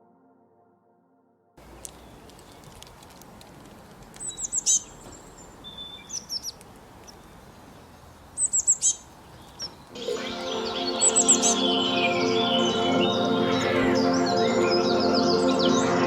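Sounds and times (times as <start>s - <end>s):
soft outdoor hiss: 1.6s - 15.6s
songbirds chirping: 1.6s - 16.0s.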